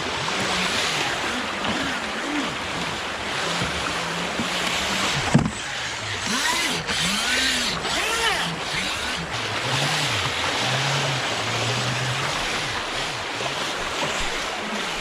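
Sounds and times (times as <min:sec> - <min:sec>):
electric motor whining: 0:00.0 - 0:15.0
fast creek water rushing: 0:00.0 - 0:15.0.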